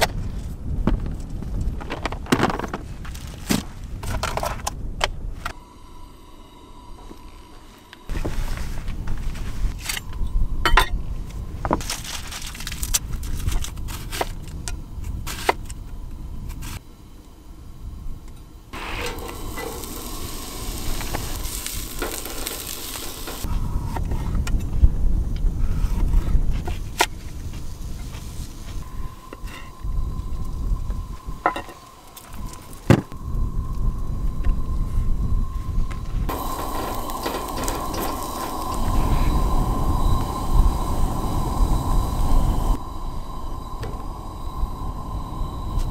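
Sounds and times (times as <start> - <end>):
wind rumbling on microphone: 0.0 - 5.6, 8.1 - 16.8, 17.4 - 45.9
steady hiss: 5.3 - 45.9.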